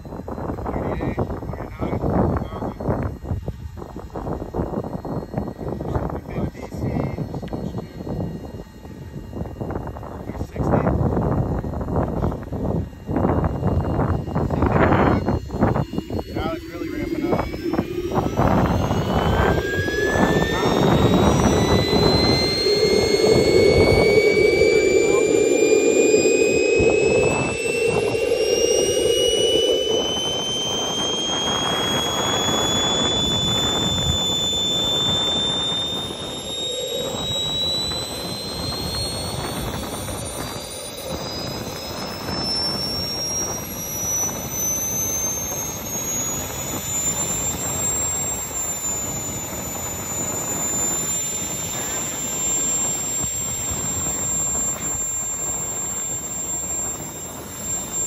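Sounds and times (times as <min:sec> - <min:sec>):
jet turbine whine rising in pitch: 0:00.0 - 0:58.0
rushing turbine exhaust: 0:00.0 - 0:58.0.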